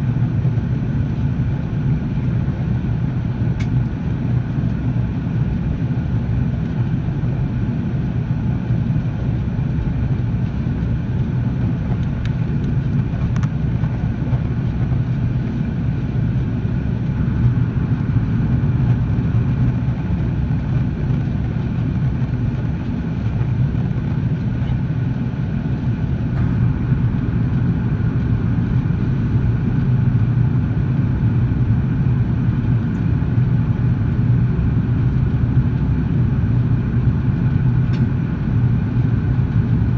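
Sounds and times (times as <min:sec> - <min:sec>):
faint jet engine whine: 0:00.0 - 0:39.9
jet engine rumble: 0:00.0 - 0:39.9.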